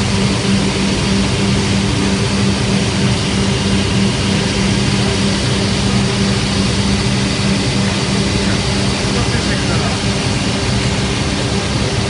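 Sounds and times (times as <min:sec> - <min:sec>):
fabric shearing machine humming: 0:00.0 - 0:12.0.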